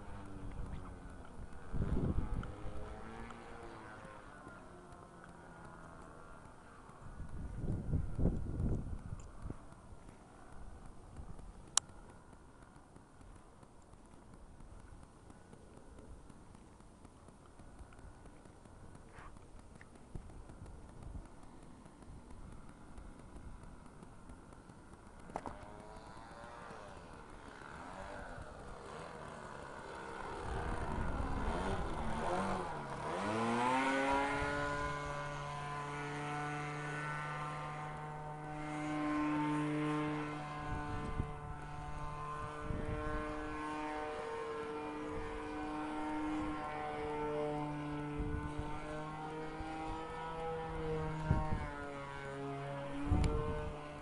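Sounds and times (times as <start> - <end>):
model plane engine droning: 0.0 - 54.0.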